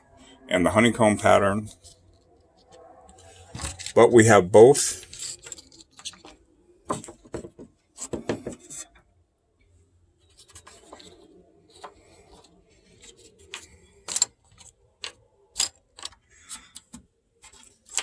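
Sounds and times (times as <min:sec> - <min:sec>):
rubbing and scraping of small parts: 0:01.2 - 0:09.1, 0:10.2 - 0:18.0.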